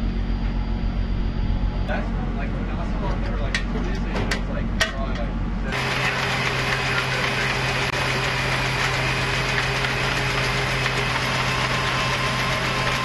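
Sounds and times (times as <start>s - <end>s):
ship machinery droning: 0.0s - 13.0s.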